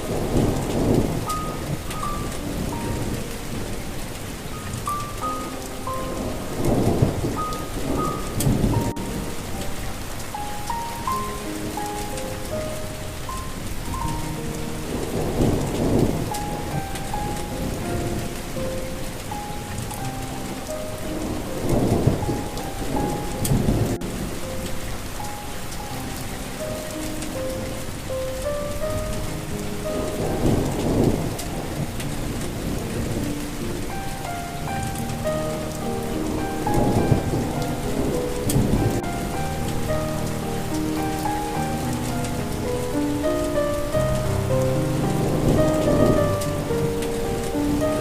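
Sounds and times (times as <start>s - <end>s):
rolling thunder: 0.0s - 48.0s
soft melody of held notes: 0.0s - 48.0s
steady rain: 0.0s - 48.0s.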